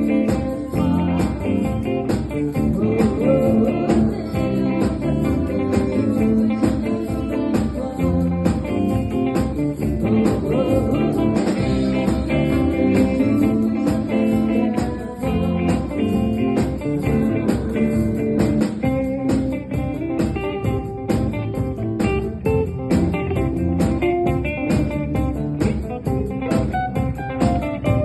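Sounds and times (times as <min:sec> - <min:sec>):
blues guitar: 0:00.0 - 0:28.0
steady drum beat: 0:00.0 - 0:28.0.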